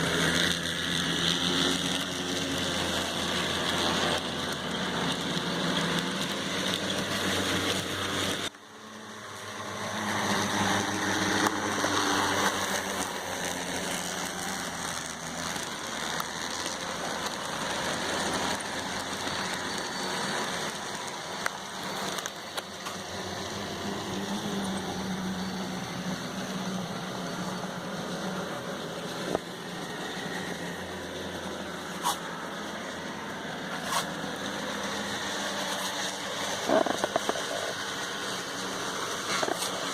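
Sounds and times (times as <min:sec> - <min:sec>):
model train motor whirring: 0:00.0 - 0:39.9.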